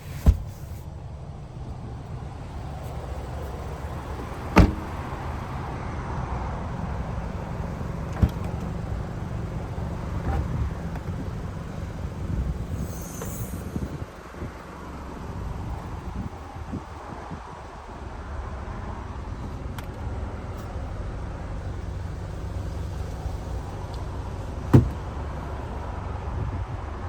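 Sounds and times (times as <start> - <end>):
vehicle rumbling: 0.0 - 27.0.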